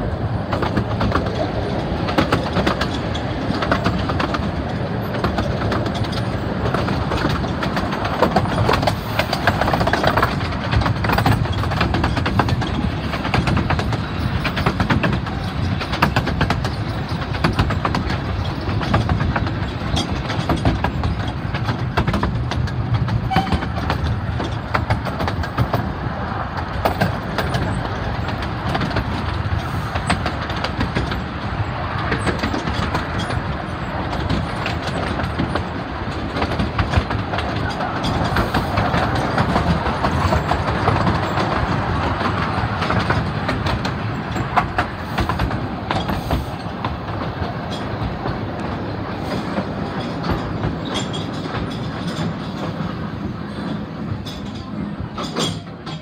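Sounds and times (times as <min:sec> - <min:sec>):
train carriage rumbling: 0:00.0 - 0:56.0
wheels clicking over rail joints: 0:00.0 - 0:56.0.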